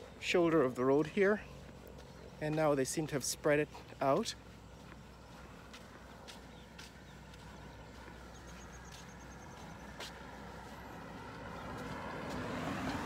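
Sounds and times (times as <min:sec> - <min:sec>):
vehicle approaching: 0:00.0 - 0:13.0.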